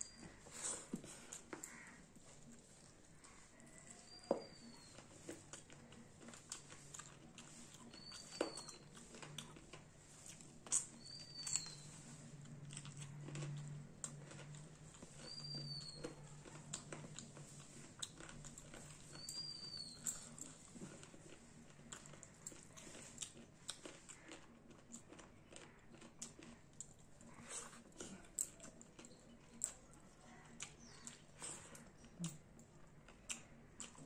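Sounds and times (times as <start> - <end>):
chewing and lip smacks: 0.1 - 34.0.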